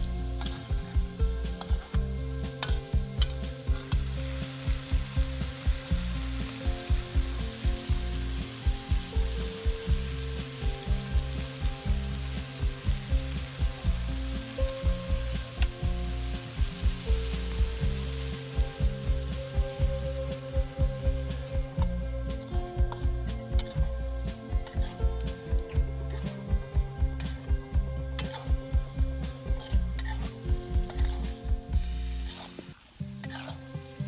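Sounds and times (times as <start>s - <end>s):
background music with a beat: 0.0s - 34.0s
frying in hot oil sizzle: 0.0s - 34.0s.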